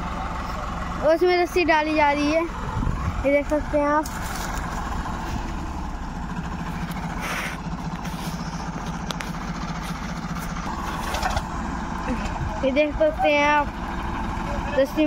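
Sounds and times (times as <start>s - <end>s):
tractor diesel engines idling: 0.0s - 15.0s.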